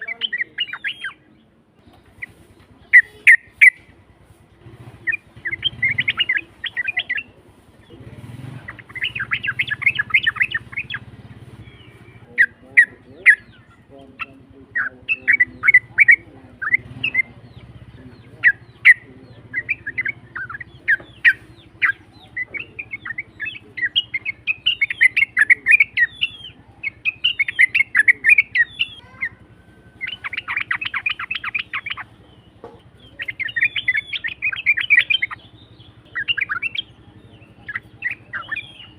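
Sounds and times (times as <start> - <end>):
bird rough chattering song: 0.0 - 38.9.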